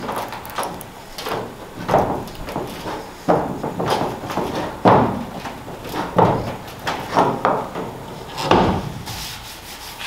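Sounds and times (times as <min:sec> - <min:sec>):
sheet metal clunks and creaks: 0:00.0 - 0:09.2.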